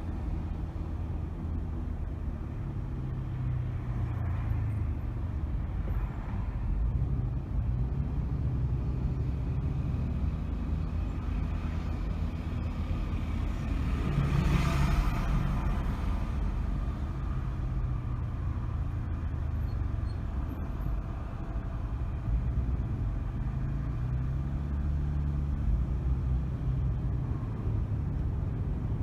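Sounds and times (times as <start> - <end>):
car engine hum: 0.0 - 29.0.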